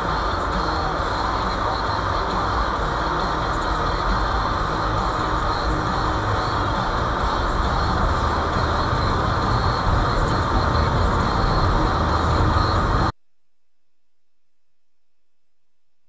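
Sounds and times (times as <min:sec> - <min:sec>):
car engine rumble: 0:00.0 - 0:13.1.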